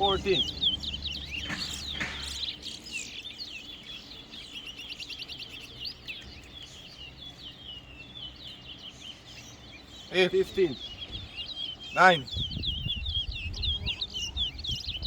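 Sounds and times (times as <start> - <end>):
finch singing chirps and trills: 0.0 - 15.0.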